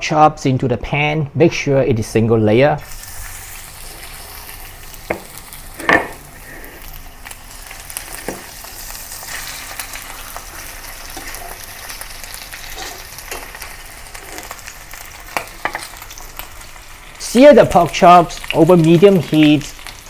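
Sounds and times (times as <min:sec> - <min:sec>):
meat sizzling in oil: 0:02.8 - 0:20.0.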